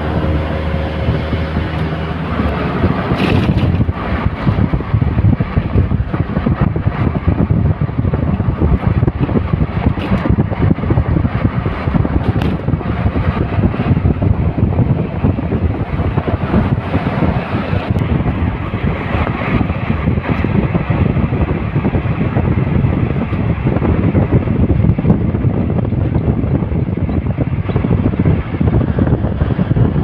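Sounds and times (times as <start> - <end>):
road and engine rumble: 0.0 - 30.0
wind buffeting microphone: 0.0 - 30.0.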